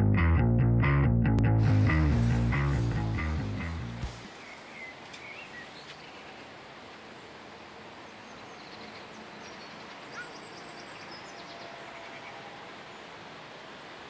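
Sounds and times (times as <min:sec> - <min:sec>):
steady background hiss: 0:01.6 - 0:14.0.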